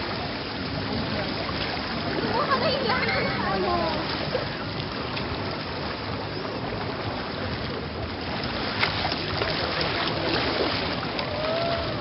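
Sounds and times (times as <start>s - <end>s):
water splashing against boat hull: 0.0s - 12.0s.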